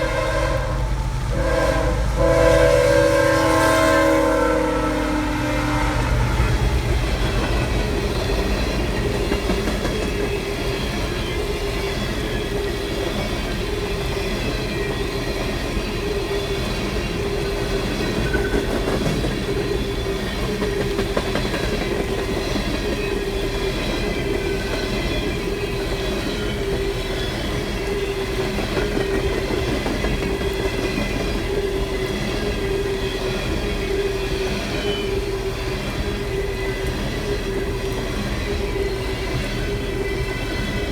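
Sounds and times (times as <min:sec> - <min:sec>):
freight train wheels on rails: 0:00.0 - 0:40.9
whining tone from train wheels: 0:00.0 - 0:40.9.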